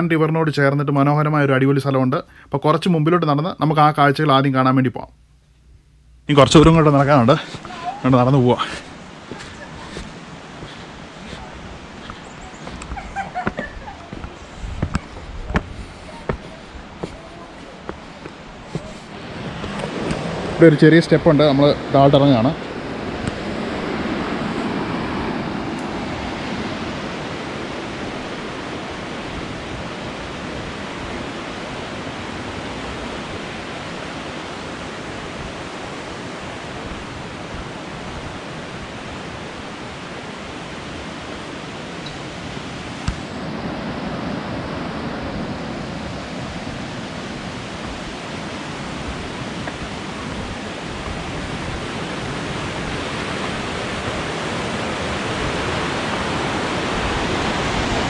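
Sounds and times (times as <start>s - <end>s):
river rapids rushing: 6.4s - 58.0s.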